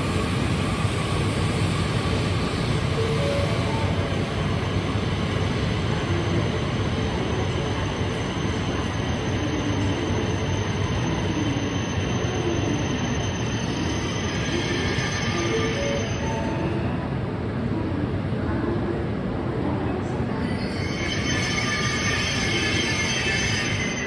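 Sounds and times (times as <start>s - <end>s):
high-speed train rushing past: 0.0s - 24.0s.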